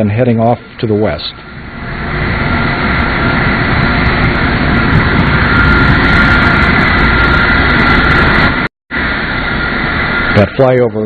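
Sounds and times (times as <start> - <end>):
high engine whine: 0.0 - 11.0
jet engines running: 0.0 - 11.0.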